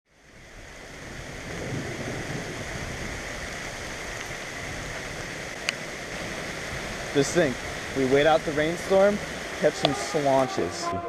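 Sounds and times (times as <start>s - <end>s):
heavy rain hiss: 0.1s - 11.0s.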